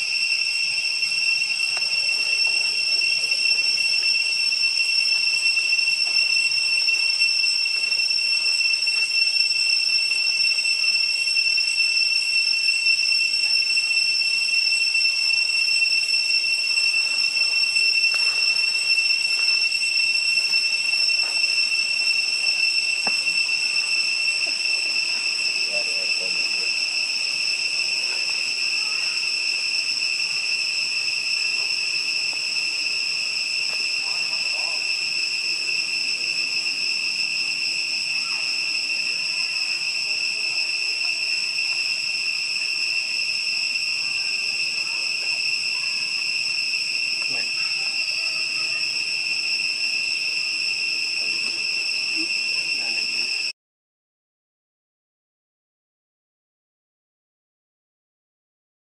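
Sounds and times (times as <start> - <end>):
shrill insect drone: 0.0 - 53.6.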